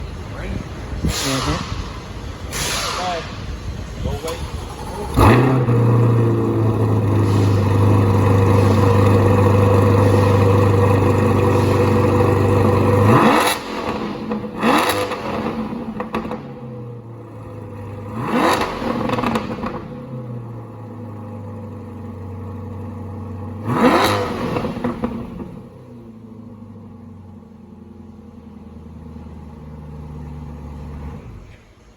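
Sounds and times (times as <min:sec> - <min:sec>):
car engine idling and revving: 0:03.5 - 0:31.9.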